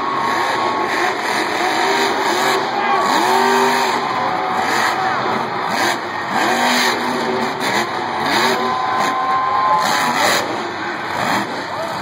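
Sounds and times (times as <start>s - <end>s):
arena crowd noise: 0.0s - 12.0s
truck engine revving hard: 0.0s - 12.0s.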